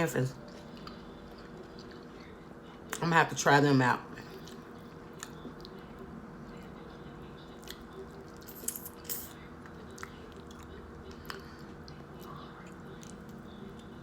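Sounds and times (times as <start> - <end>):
chewing and biting sandwich: 0.4 - 3.0, 4.2 - 14.0.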